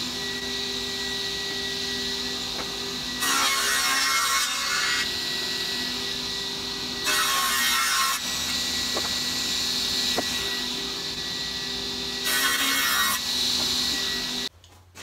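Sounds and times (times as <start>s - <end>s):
table saw motor humming: 0.0s - 14.5s
saw blade cutting wood: 1.9s - 14.5s.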